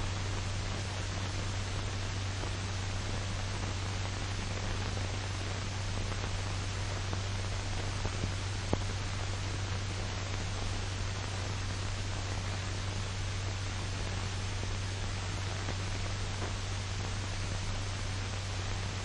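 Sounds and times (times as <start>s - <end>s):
film soundtrack hiss and hum: 0.0s - 19.0s.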